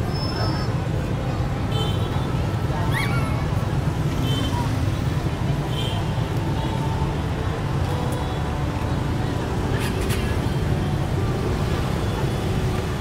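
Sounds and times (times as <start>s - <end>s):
crowd voices: 0.0s - 13.0s
road traffic rumble: 0.0s - 13.0s.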